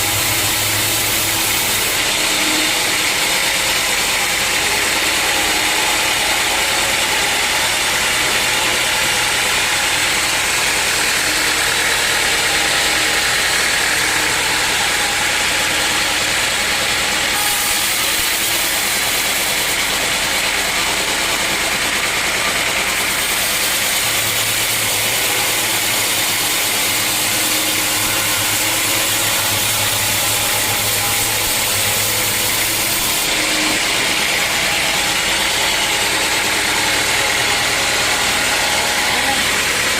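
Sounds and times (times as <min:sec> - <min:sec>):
motor hum: 0:00.0 - 0:39.9
saw hissing: 0:00.0 - 0:39.9.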